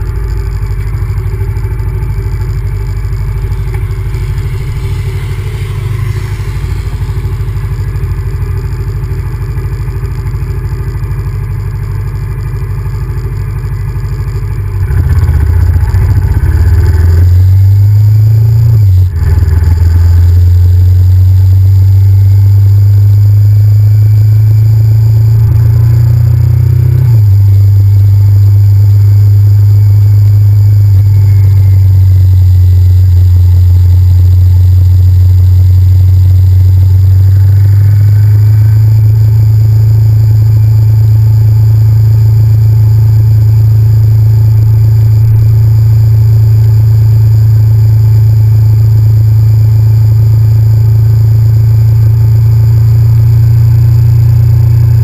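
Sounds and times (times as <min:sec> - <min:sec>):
motorcycle engine droning: 0:00.0 - 0:55.0.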